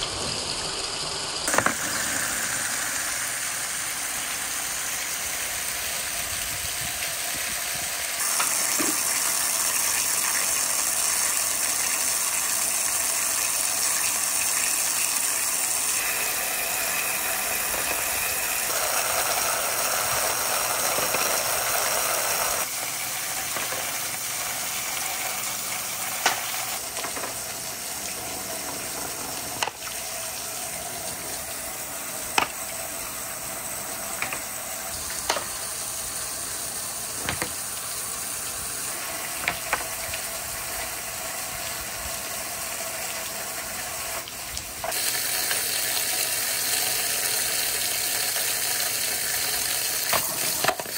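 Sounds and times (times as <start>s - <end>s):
water rushing down chutes: 0.0s - 50.9s.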